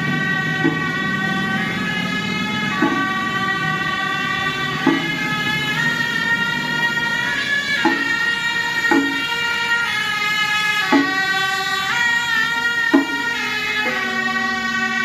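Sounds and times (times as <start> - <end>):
drum or gong strokes: 0.0 - 15.0
shawms playing long notes: 0.0 - 15.0.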